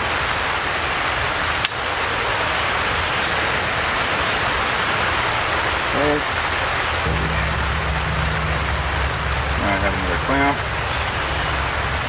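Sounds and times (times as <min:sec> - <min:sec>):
rain on plastic roof: 0:00.0 - 0:12.0.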